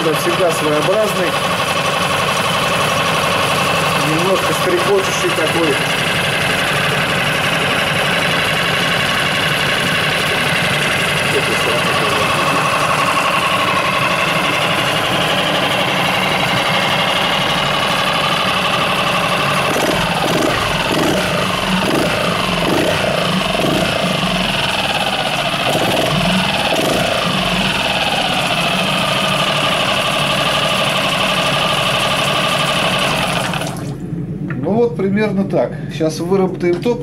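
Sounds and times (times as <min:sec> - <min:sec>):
outboard motor running: 0:00.0 - 0:34.3.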